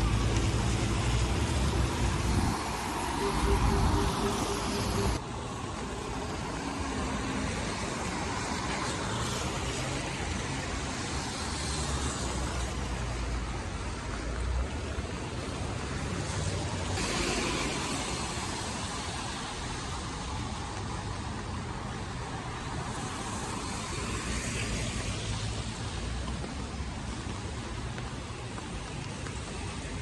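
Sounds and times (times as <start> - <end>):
tyres hissing on wet road: 0.0 - 30.0.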